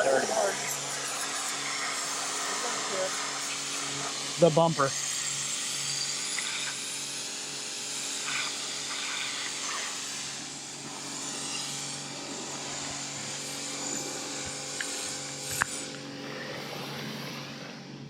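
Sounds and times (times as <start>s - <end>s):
power tool motor hum: 0.0s - 17.9s.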